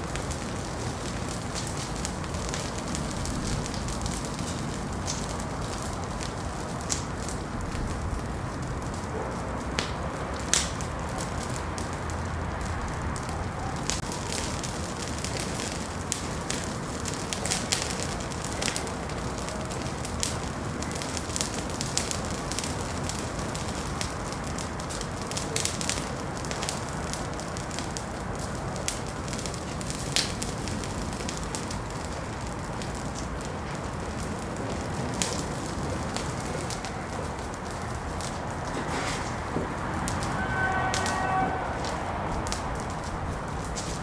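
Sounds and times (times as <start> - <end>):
fire crackles and pops: 0.0 - 44.0
fire flame rushing: 0.0 - 44.0.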